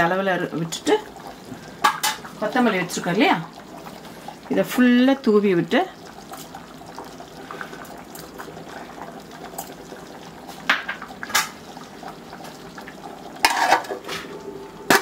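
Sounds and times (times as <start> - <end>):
curry bubbling: 0.0 - 15.0.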